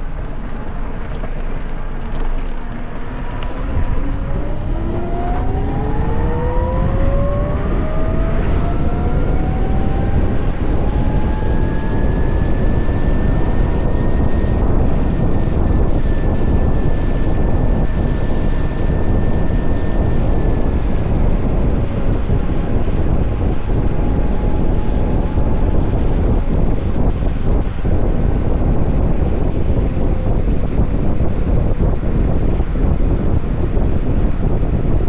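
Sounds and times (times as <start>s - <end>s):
electric motorcycle motor whine: 0.0s - 35.0s
wind and road noise: 0.0s - 35.0s.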